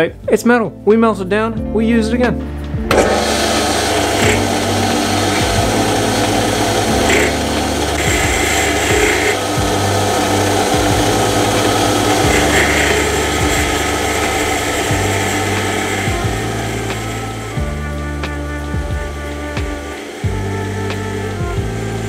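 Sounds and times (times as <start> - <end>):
lathe tool scraping brass: 2.9 - 22.0
metal lathe running: 2.9 - 22.0.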